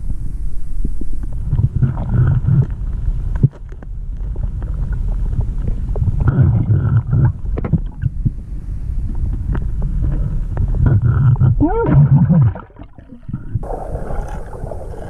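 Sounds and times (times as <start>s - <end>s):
low rumble of water: 0.0s - 15.0s
regulator bubbles underwater: 0.8s - 3.6s, 4.2s - 15.0s.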